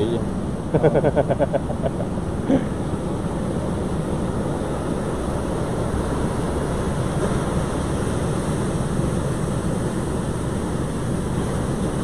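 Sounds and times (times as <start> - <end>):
surf breaking on rocky shore: 0.0 - 12.0.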